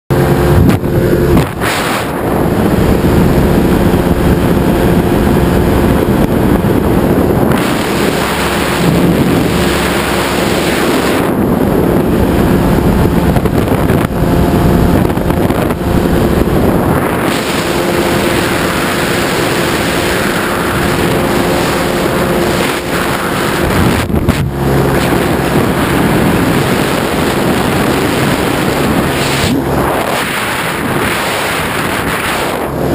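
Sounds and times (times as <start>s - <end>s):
aircraft engine and propeller: 0.1s - 32.9s
wind rushing over microphone: 0.1s - 32.9s.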